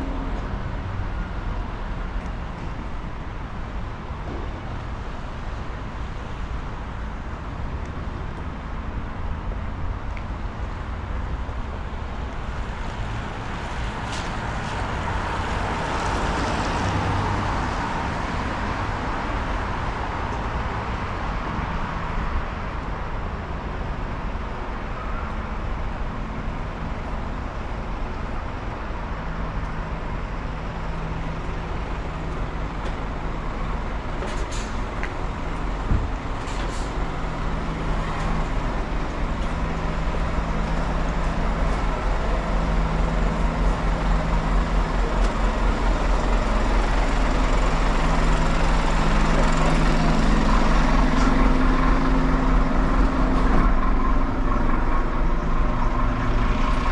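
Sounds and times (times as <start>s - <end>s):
engine running hum: 0.0s - 56.9s
street traffic: 0.0s - 56.9s.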